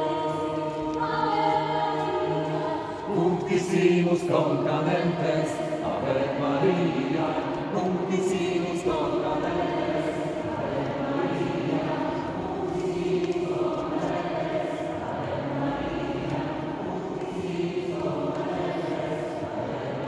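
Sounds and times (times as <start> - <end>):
choir singing chant-like notes: 0.0 - 20.0.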